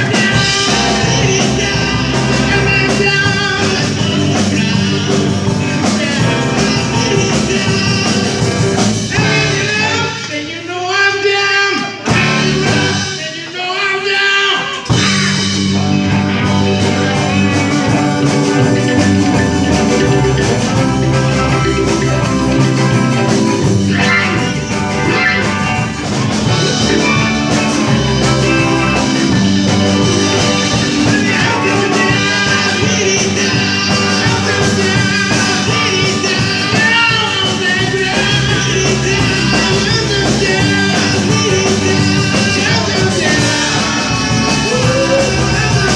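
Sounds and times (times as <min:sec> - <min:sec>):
live rock band playing: 0:00.0 - 0:45.9
person singing: 0:00.0 - 0:45.9.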